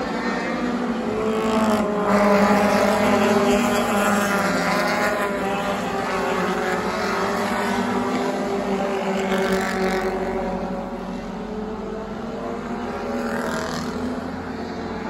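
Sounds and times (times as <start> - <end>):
stock cars racing past: 0.0 - 15.0.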